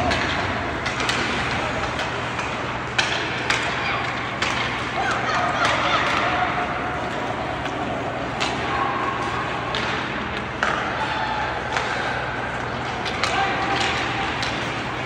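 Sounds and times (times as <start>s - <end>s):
hockey sticks clacking on puck: 0.0s - 15.0s.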